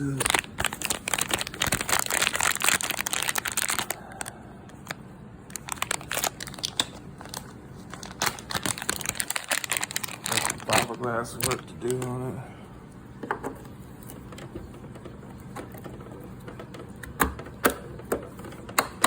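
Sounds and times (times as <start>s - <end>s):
crinkling handling noise: 0.0s - 19.0s.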